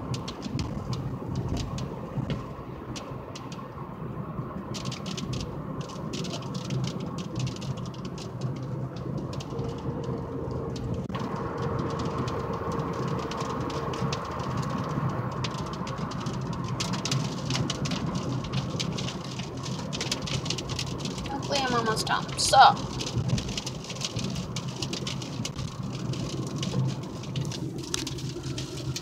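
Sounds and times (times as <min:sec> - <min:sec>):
raindrops ticking: 0:00.0 - 0:29.0
steady low rumble: 0:00.0 - 0:29.0.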